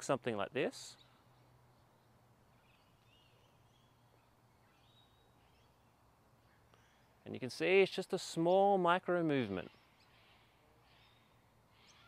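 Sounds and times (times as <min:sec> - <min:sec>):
distant bird chirps: 0:00.6 - 0:08.0, 0:09.1 - 0:12.0.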